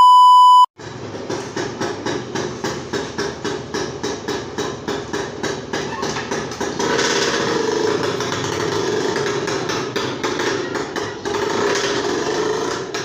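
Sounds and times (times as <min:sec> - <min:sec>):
motorcycle engine: 0:00.8 - 0:13.0.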